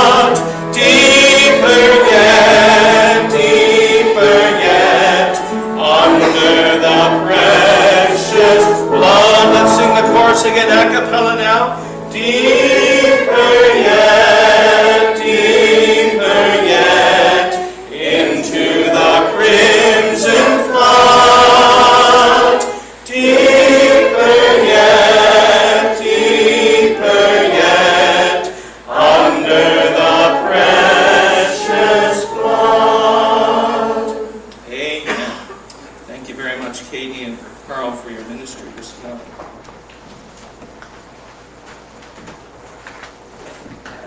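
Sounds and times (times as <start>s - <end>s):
group singing a hymn: 0.0s - 35.3s.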